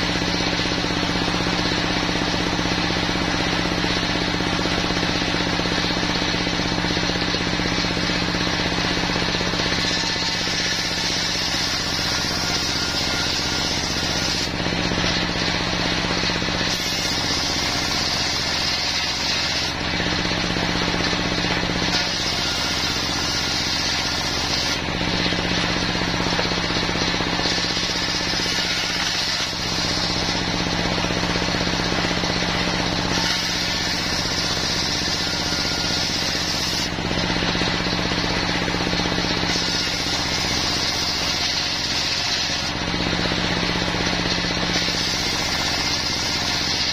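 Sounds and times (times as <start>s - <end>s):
diesel engine running: 0.0s - 46.9s
saw blade cutting wood: 0.0s - 46.9s.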